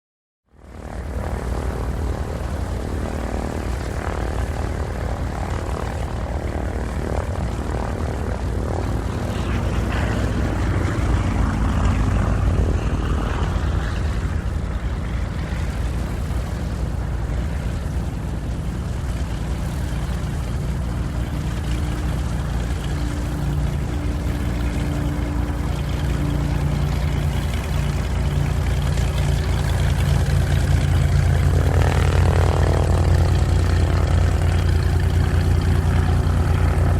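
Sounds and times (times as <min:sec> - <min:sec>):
airplane engine drone: 0:00.5 - 0:36.9.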